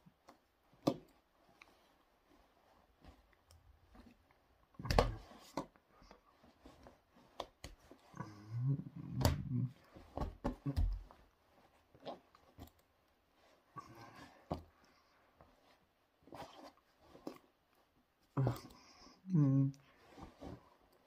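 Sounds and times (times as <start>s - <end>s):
hands and clothing rustling: 0.0s - 19.0s, 19.8s - 21.0s.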